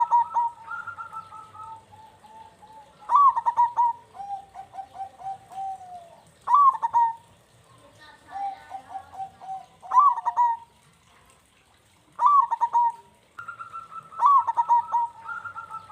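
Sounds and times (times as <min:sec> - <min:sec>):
dove cooing: 0:00.0 - 0:10.8, 0:12.1 - 0:15.9.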